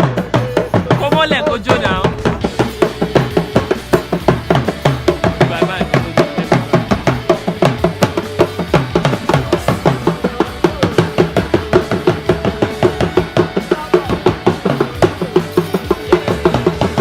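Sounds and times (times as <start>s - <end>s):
music with fast drumming: 0.0s - 17.0s.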